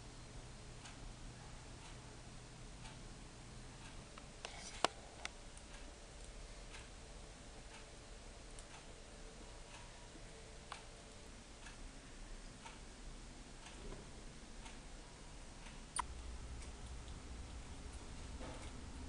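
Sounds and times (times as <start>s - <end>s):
faint ticking: 0.7s - 19.0s.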